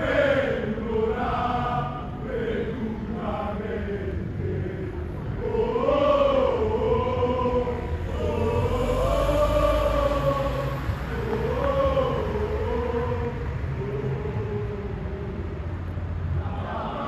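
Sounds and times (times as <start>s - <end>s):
crowd chanting in unison: 0.0s - 15.5s, 16.2s - 17.0s.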